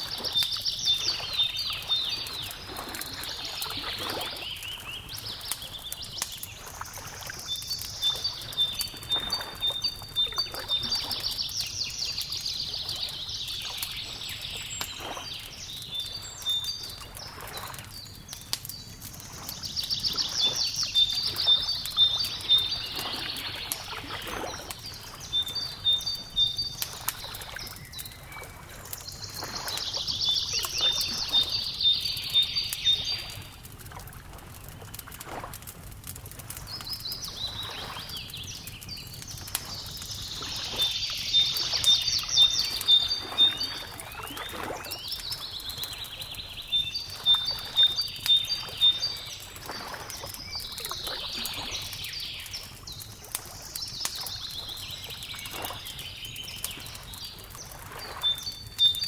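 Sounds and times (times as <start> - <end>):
songbird singing: 0.0 - 33.7, 36.6 - 59.0
crackling wood fire: 0.0 - 59.0.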